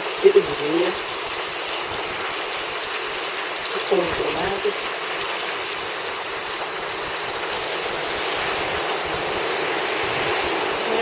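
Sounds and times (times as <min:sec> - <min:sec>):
heavy rain splashing into puddles: 0:00.0 - 0:11.0.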